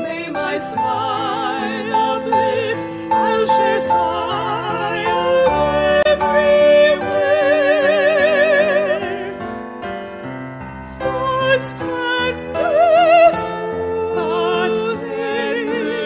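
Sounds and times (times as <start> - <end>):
person singing a hymn with vibrato: 0.0 - 9.5, 10.9 - 16.0
piano accompaniment: 0.0 - 16.0.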